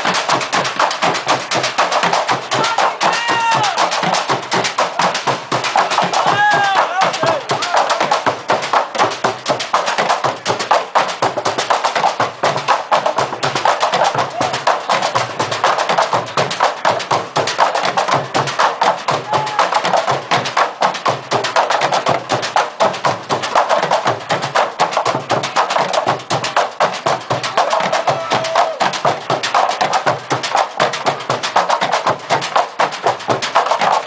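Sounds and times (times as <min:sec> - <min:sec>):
plastic barrel drums beaten: 0:00.0 - 0:34.0.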